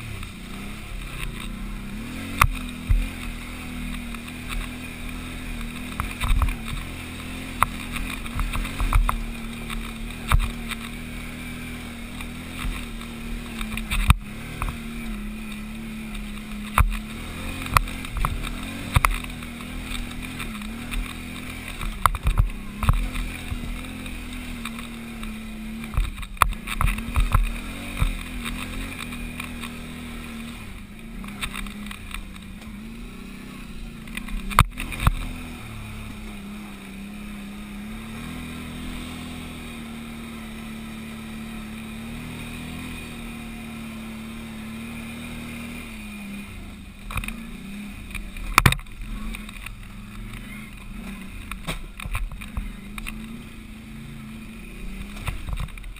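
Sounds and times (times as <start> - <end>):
atv engine under load: 0.0 - 55.9.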